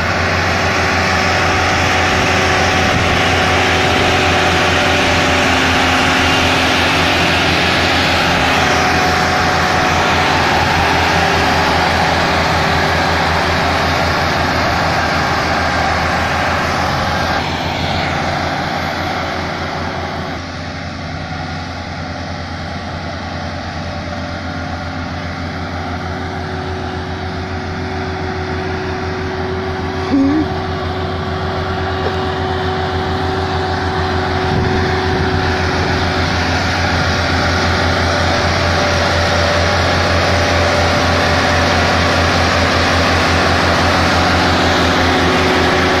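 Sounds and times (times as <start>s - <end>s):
tractor diesel engines under load: 0.0s - 46.0s.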